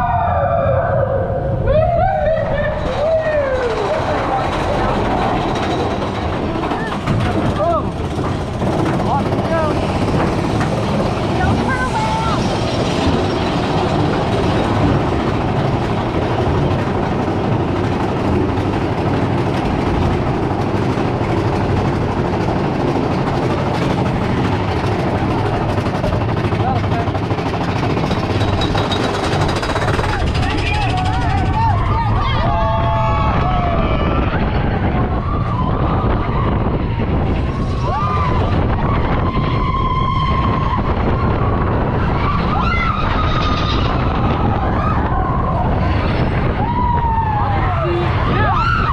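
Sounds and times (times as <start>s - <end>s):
roller coaster wheels rumbling: 0.0s - 48.9s.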